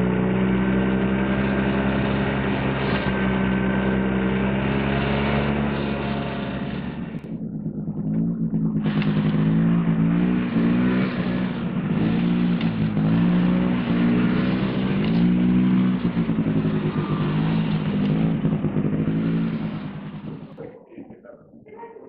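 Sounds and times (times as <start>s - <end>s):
snowmobile engine revving: 0.0s - 20.6s.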